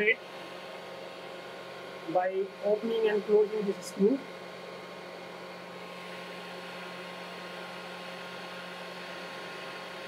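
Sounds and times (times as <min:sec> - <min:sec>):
air sampler hum and hiss: 0:00.0 - 0:10.0.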